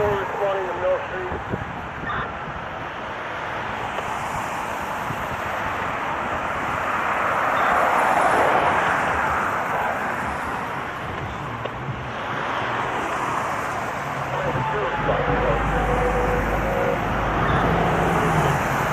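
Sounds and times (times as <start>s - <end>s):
road vehicle passing: 0.0s - 18.9s.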